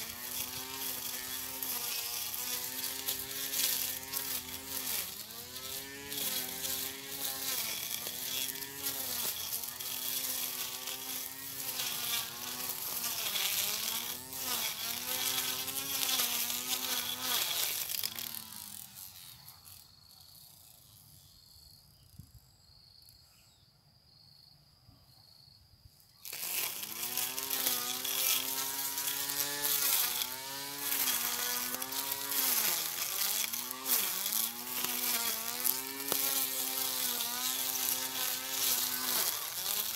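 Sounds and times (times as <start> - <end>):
electric lawn mower motor whining: 0.0 - 20.8, 26.2 - 39.9.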